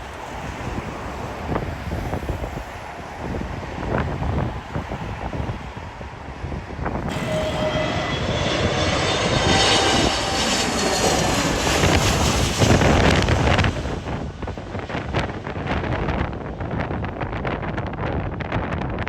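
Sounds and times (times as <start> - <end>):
airliner engine noise: 0.0 - 18.5
wind buffeting microphone: 0.0 - 19.0.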